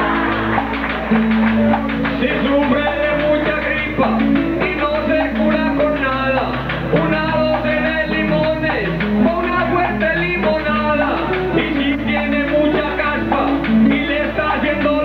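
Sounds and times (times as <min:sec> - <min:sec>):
guitar folk accompaniment: 0:00.0 - 0:15.0
man singing into a microphone: 0:02.1 - 0:15.0.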